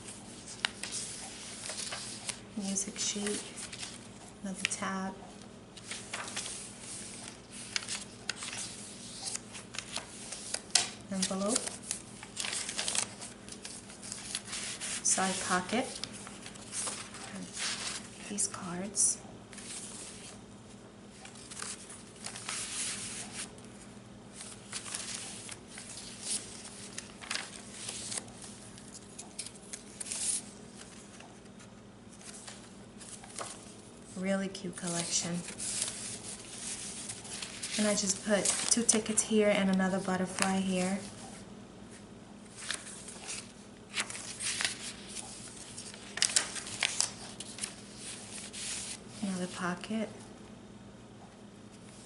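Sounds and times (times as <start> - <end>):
paper and card rustling: 0.0 - 5.0, 5.8 - 20.4, 21.1 - 41.4, 42.4 - 50.0.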